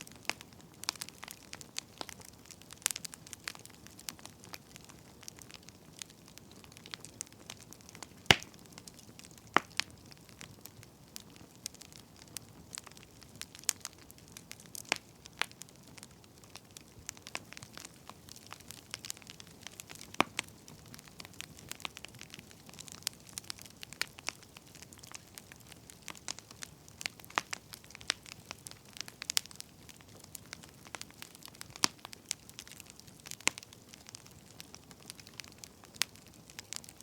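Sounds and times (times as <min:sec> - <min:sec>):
burning firewood crackling: 0:00.0 - 0:37.0.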